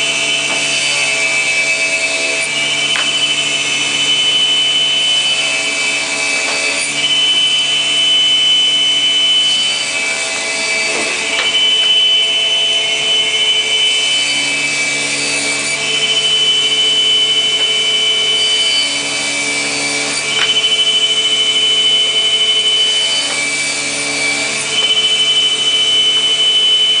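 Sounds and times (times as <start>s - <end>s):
grooving machine cutting: 0.0s - 27.0s
steady machine whine: 0.0s - 27.0s.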